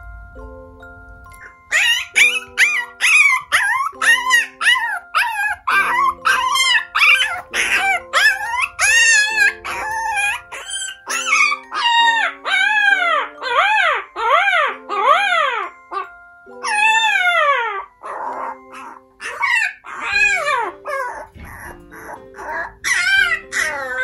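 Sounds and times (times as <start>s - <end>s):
soft background music: 0.0s - 24.0s
small dog whining yips: 1.4s - 24.0s.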